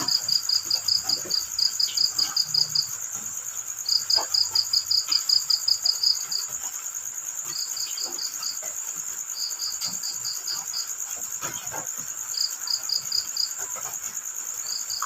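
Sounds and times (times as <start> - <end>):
cricket chirping in quick pulses: 0.0 - 15.0
cricket pulsing trill: 0.0 - 15.0.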